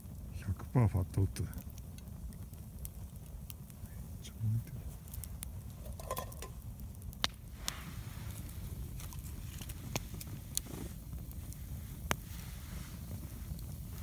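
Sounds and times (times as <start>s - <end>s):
sharp pops of fire: 0.0s - 4.0s, 5.0s - 14.0s
campfire crackling: 0.0s - 14.0s.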